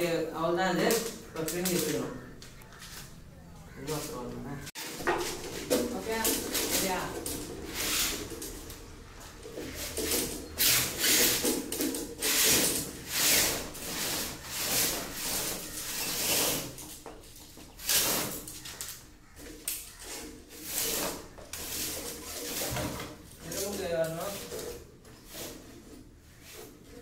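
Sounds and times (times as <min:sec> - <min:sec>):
wires scraping through plastic conduit: 0:00.4 - 0:27.0.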